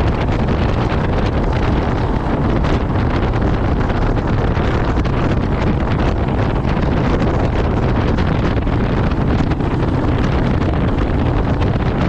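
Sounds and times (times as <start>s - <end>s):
motorcycle running: 0.0s - 12.0s
road noise: 0.0s - 12.0s
wind buffeting microphone: 0.0s - 12.0s.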